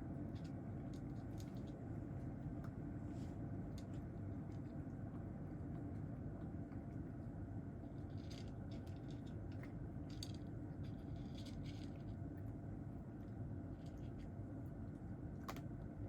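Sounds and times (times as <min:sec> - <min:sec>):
cat chewing crunchy food: 0:00.0 - 0:16.0
low room hum: 0:00.0 - 0:16.0.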